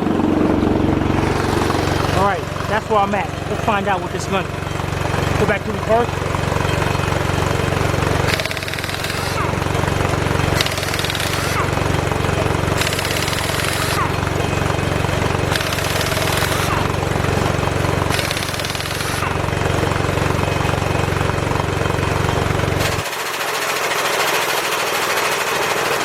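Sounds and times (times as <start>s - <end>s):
steady low hum: 0.0s - 23.1s
air impact wrench hammering: 0.3s - 26.0s.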